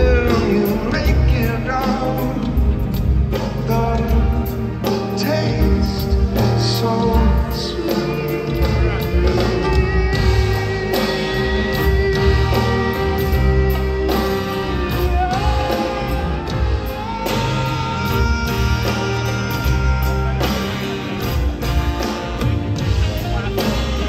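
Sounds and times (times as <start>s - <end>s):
live band playing: 0.0s - 24.0s.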